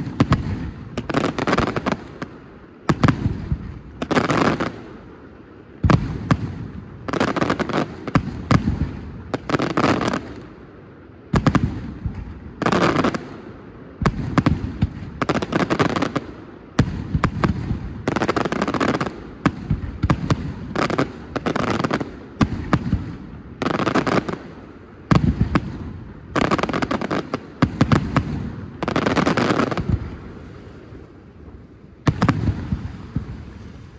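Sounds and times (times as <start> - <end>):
fireworks bangs: 0.0 - 5.0, 11.3 - 33.9
fireworks crackling: 0.0 - 33.9.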